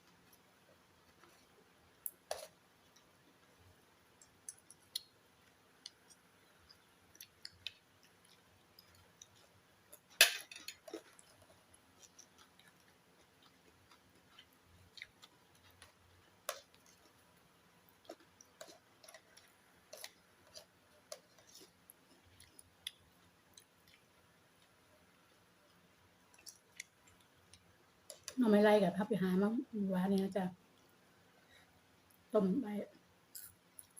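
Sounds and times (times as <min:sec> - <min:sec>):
small clicks and taps of eating: 0:00.0 - 0:03.2, 0:04.1 - 0:17.2, 0:17.9 - 0:28.4, 0:33.4 - 0:33.9
soft chewing: 0:00.0 - 0:28.4, 0:30.2 - 0:32.3, 0:33.3 - 0:33.9.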